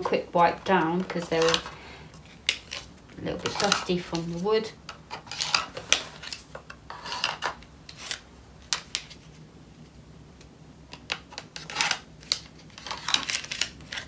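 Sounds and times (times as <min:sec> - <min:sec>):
plastic rubbing rustles: 0:00.0 - 0:09.4, 0:11.1 - 0:14.0.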